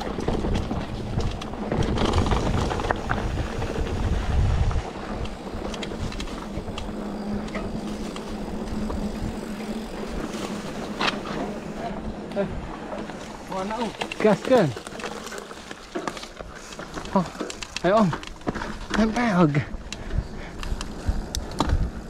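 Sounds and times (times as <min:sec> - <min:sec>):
wind rumble on microphone: 0:00.0 - 0:14.0, 0:17.7 - 0:22.0
bike tyres and drivetrain rattling: 0:00.0 - 0:22.0.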